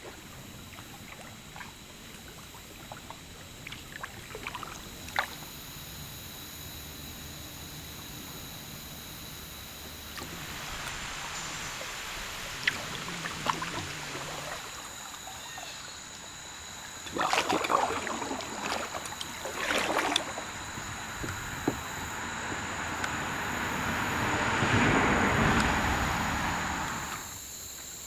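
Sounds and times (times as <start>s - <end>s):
kayak paddle splashing: 0.0s - 27.5s
flowing river water: 0.0s - 28.0s.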